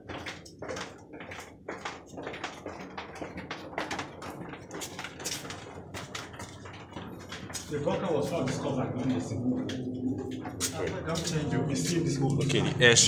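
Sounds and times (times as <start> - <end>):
footsteps down concrete stairs: 0.0 - 12.8.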